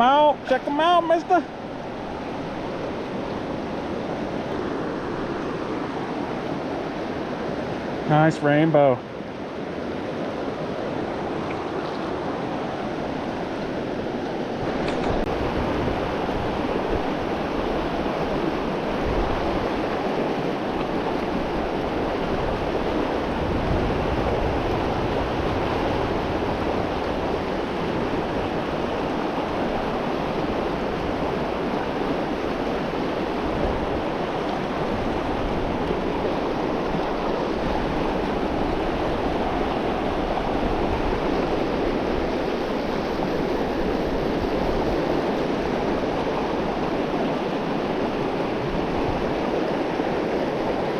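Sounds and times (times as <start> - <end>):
river flowing: 0.0 - 50.9.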